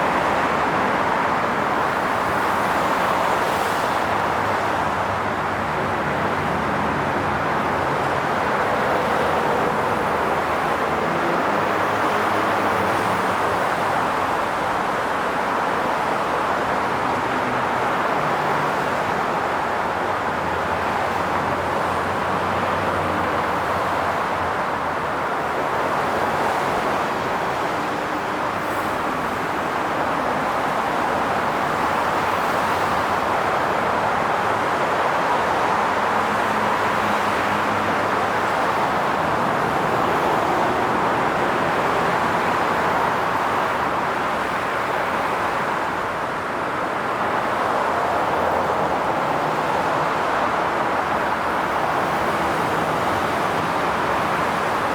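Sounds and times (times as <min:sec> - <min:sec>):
highway traffic: 0:00.0 - 0:54.9.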